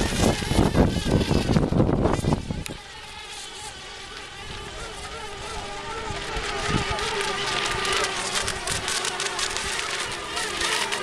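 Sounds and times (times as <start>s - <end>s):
electric rc boats whining: 0.0s - 11.0s.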